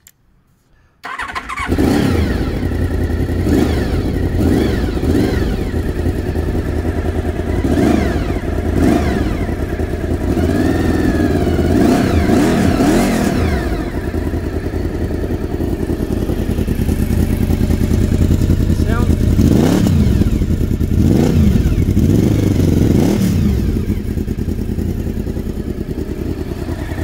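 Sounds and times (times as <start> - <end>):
motorcycle engine revving: 1.0 - 27.0.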